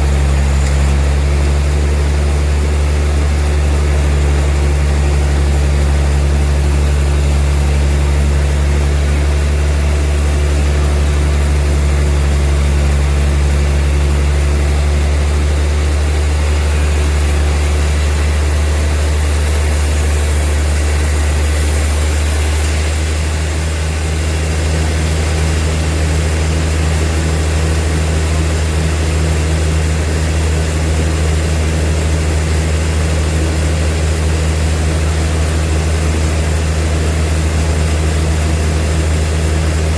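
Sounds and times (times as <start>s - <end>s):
bandsaw sawmill machinery drone: 0.0s - 39.9s.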